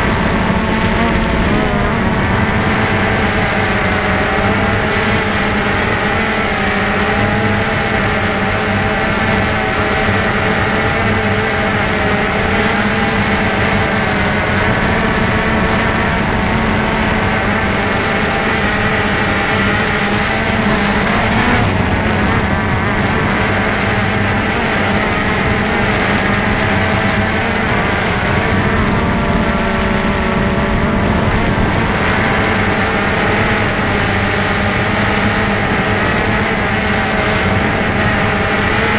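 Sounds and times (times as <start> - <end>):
drone buzzing whine: 0.0 - 38.9.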